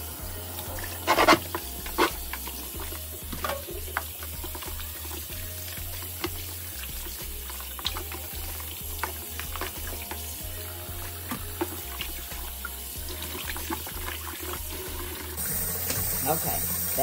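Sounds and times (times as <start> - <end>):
faucet running into water: 0.0 - 17.0
water splashing and sloshing: 0.0 - 17.0.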